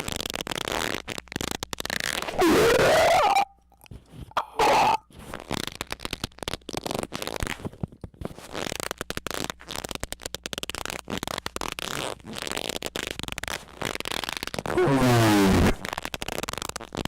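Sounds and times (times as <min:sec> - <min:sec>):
distorted rapid crackles and clicks: 0:00.0 - 0:03.5, 0:04.6 - 0:17.0.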